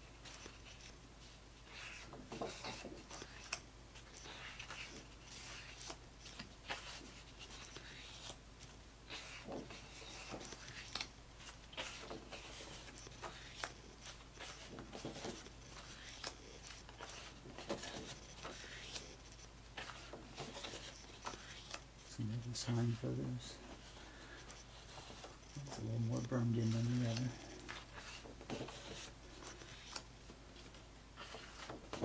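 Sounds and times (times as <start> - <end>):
photo prints rustling: 0.0 - 32.0.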